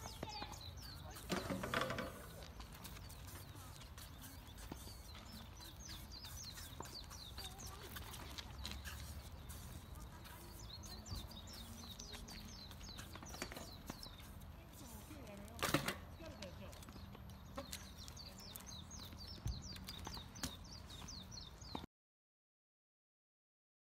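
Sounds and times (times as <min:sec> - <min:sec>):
bike tyres scuffing on asphalt: 0:00.0 - 0:21.8
birds chirping: 0:00.0 - 0:21.9.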